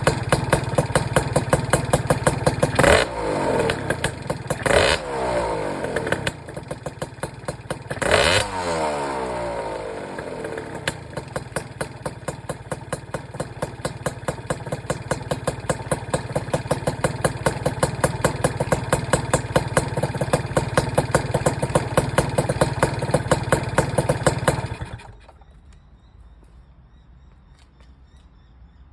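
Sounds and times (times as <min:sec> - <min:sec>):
scooter engine idling with pops: 0:00.0 - 0:26.0.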